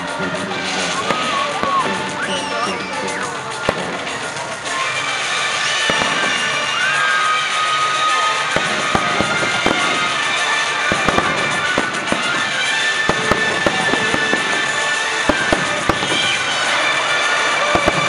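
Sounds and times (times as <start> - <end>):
firework crackles: 0.0 - 18.0
firework shells bursting: 0.0 - 18.0
music playing: 0.0 - 18.0.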